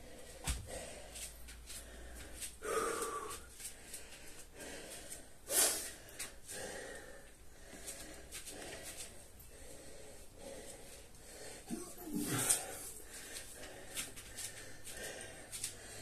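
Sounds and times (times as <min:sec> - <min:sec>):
man breathing hard: 0:00.0 - 0:16.0.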